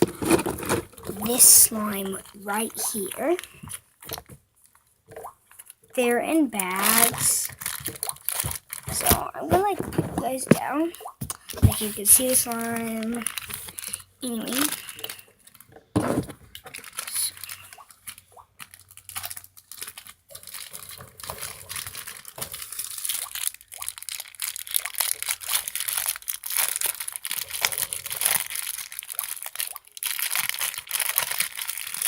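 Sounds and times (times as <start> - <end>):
plastic bag crinkling: 0.0 - 32.0.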